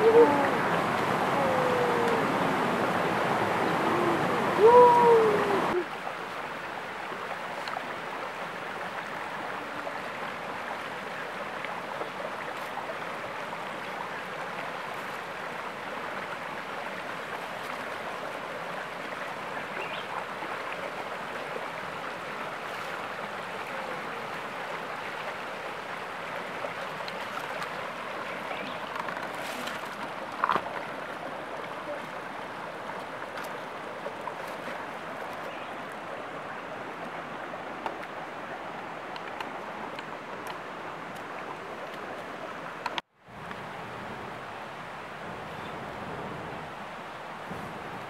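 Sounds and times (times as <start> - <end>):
stream flowing over stones: 0.0 - 48.0.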